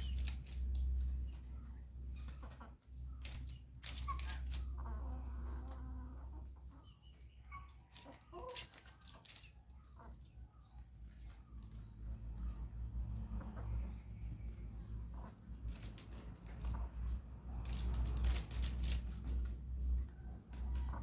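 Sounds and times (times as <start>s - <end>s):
rustling: 0.0s - 5.8s, 7.5s - 12.7s, 13.4s - 21.0s.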